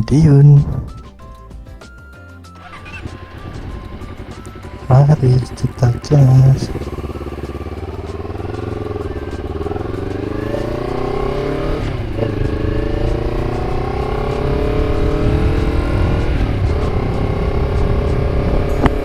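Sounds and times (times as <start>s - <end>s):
wind rumble: 0.0s - 1.3s, 2.6s - 19.0s
motorcycle engine accelerating: 0.0s - 19.0s.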